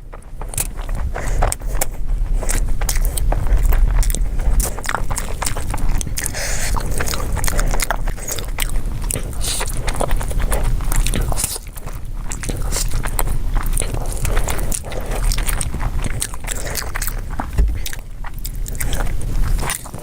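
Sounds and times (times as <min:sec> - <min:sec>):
person biting and chewing food: 0:00.0 - 0:20.0.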